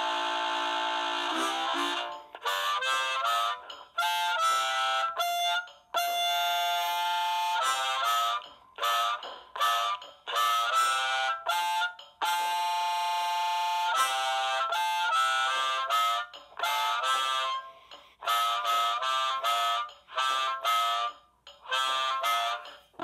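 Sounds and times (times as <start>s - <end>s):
amplified harmonica blues solo: 0.0s - 23.0s.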